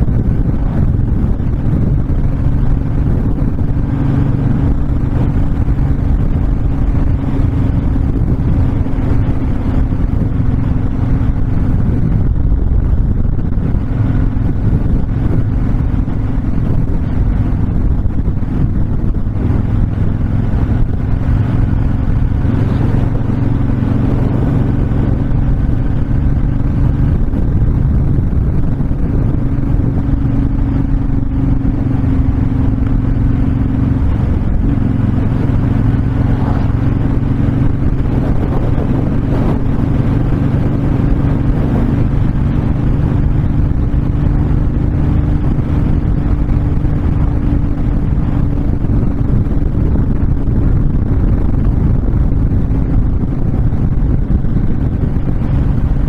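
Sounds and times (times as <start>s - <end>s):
motorcycle engine cruising: 0.0s - 56.0s
wind rushing: 0.0s - 56.0s.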